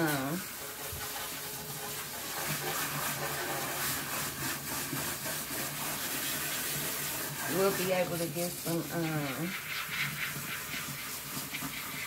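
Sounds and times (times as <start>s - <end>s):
water spraying from sink sprayer: 0.0s - 12.0s.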